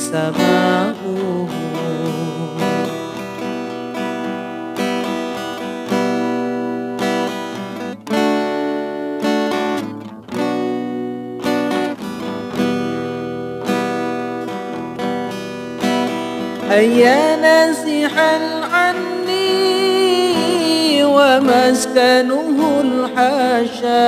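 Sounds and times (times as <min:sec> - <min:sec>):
strummed acoustic guitar chords: 0:00.0 - 0:24.0.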